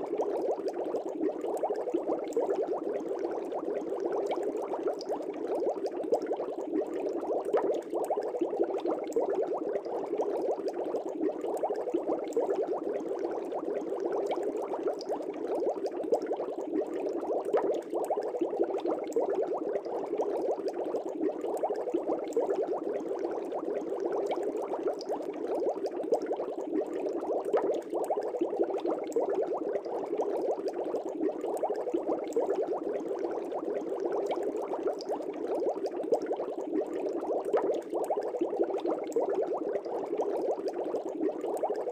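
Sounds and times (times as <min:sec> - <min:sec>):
fish tank air bubbling: 0:00.0 - 0:41.9.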